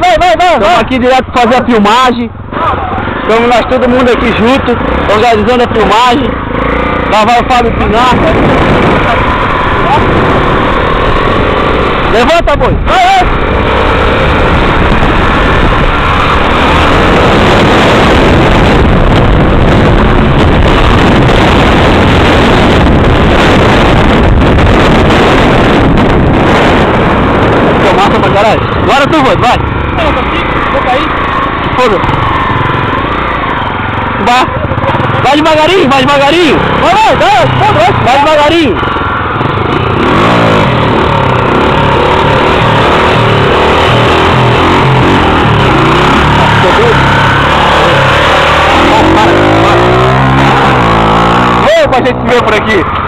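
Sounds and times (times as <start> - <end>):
dirt bike engine revving: 2.4 - 53.0
wind noise on microphone: 6.5 - 53.0.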